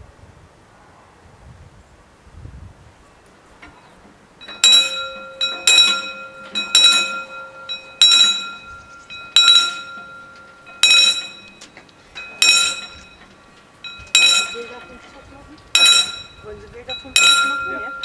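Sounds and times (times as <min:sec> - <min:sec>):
level crossing warning bells: 0:03.1 - 0:18.0.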